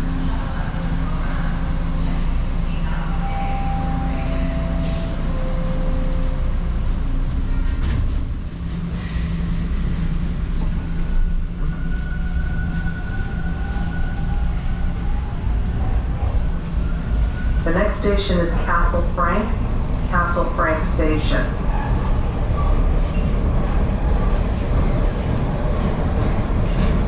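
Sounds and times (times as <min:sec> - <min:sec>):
subway train rumble: 0:00.0 - 0:27.0.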